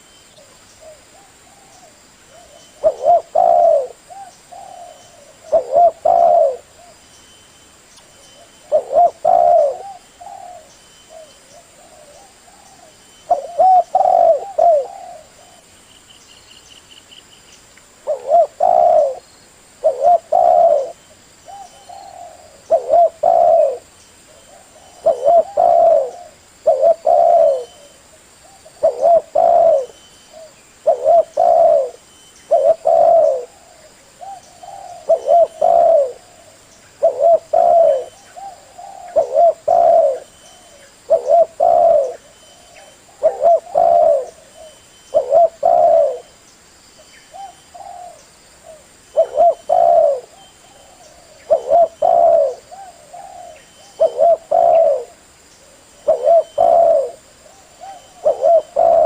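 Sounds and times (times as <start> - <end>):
dove cooing: 0.0 - 7.0, 8.4 - 15.7, 18.0 - 19.2, 19.8 - 46.3, 47.3 - 59.0.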